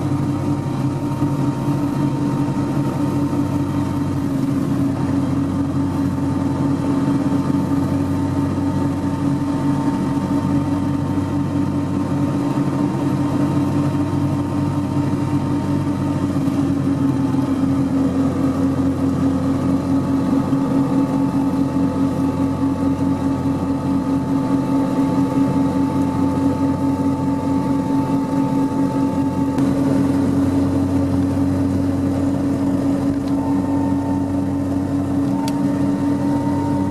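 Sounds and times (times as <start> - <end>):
car engine and tyre drone: 0.0 - 36.9.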